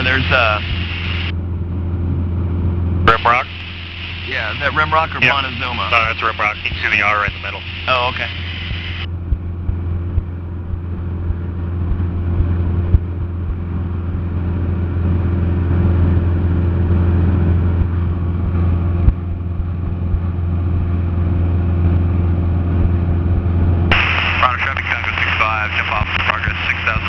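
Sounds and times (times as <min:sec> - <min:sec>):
propeller aircraft engine droning: 0:00.0 - 0:27.0.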